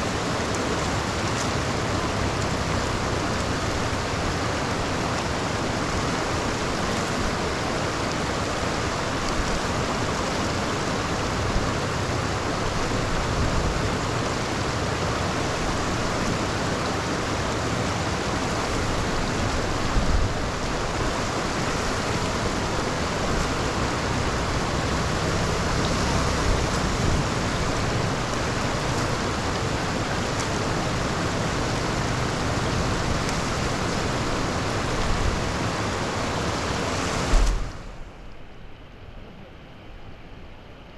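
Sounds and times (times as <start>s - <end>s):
heavy rain: 0.0s - 40.9s
rushing floodwater: 0.0s - 40.9s.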